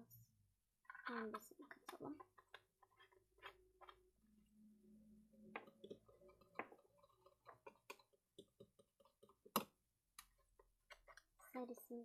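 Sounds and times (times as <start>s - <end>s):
plastic items clicking and tapping: 0.9s - 4.2s, 5.4s - 11.9s.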